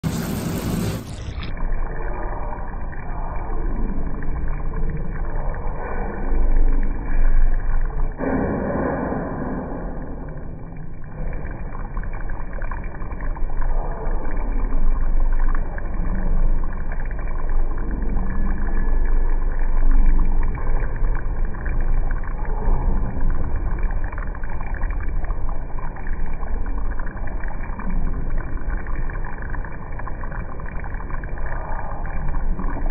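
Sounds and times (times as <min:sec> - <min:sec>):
broth boiling and bubbling: 0:00.0 - 0:32.9.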